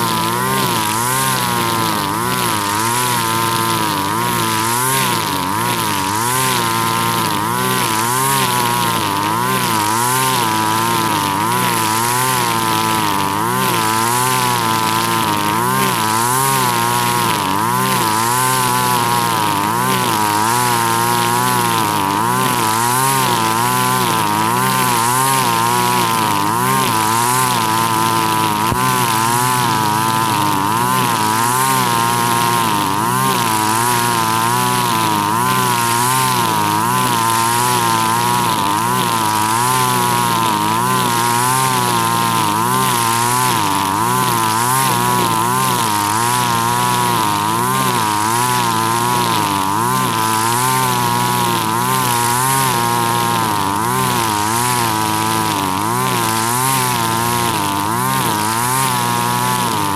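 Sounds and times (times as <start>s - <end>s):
brush cutter engine buzzing: 0.0s - 59.9s.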